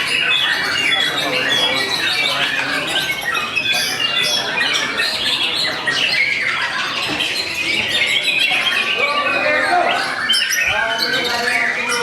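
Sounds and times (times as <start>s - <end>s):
songbirds singing and chirping: 0.0s - 12.0s.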